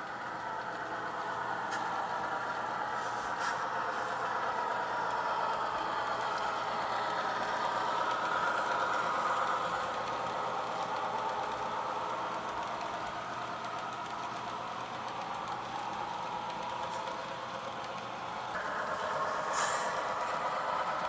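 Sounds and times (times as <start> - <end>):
diesel locomotive engine: 0.0 - 21.0.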